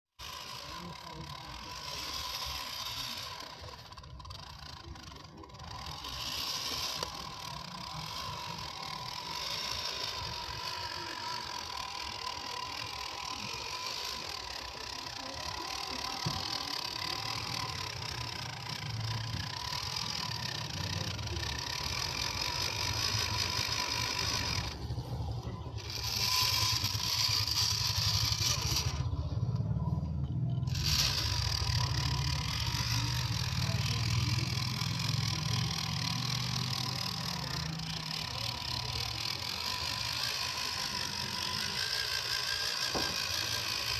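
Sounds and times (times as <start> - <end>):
electric motor and gear whine: 0.1 - 43.9.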